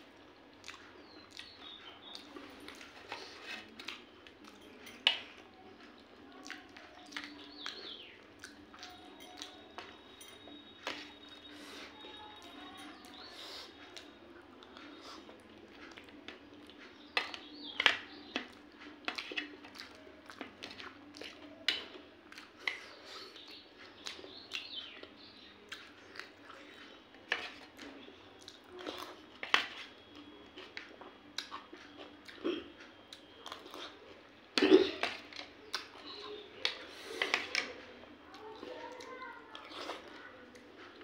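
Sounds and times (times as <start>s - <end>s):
wet chewing and lip smacking: 0.3s - 9.9s, 12.9s - 37.4s.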